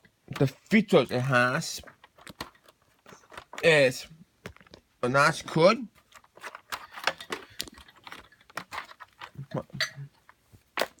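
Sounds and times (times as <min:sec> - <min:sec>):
plastic parts clicking and tapping: 0:00.0 - 0:04.9, 0:05.6 - 0:11.0.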